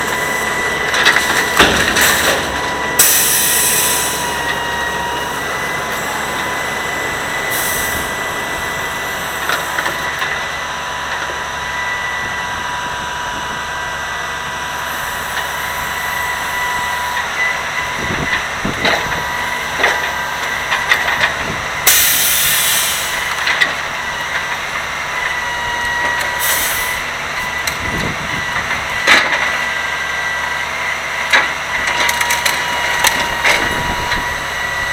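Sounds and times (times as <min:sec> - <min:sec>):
truck running with high whine: 0:00.0 - 0:34.9.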